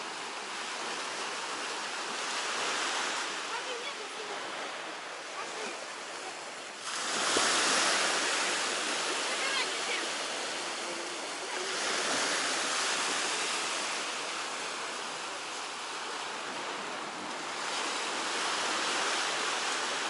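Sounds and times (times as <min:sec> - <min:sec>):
waves breaking ashore: 0:00.0 - 0:20.0.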